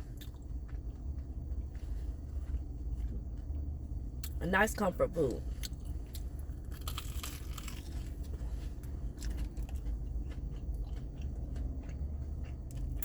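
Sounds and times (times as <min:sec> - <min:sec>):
person chewing crunchy food: 0:00.0 - 0:04.4, 0:05.4 - 0:13.0
steady low hum: 0:00.0 - 0:13.0.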